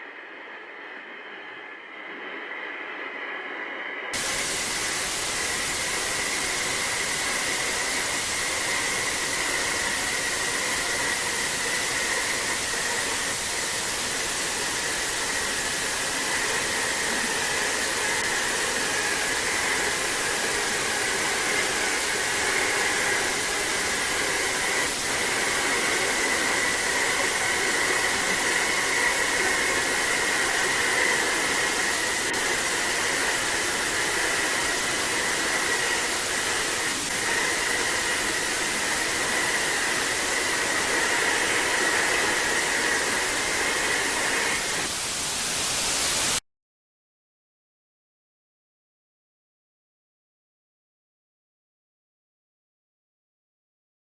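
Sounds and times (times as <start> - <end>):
static white noise hiss: 2.0 - 46.4.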